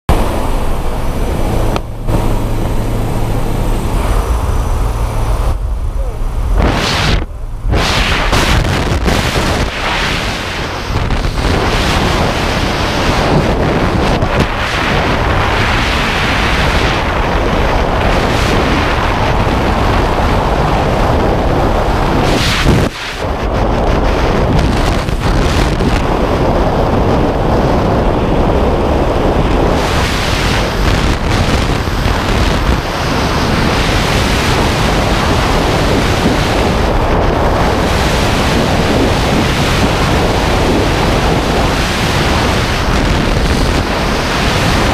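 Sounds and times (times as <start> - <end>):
wind rushing on microphone: 0.1 - 44.9.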